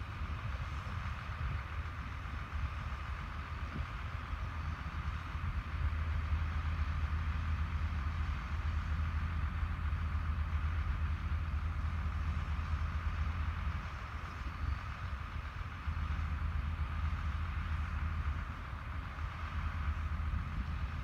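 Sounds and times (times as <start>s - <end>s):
diesel farm machinery rumbling: 0.0s - 21.0s.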